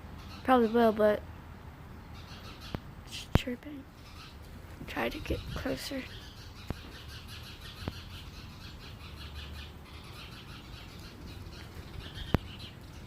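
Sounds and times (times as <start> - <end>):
small bird chirping: 2.0 - 13.0.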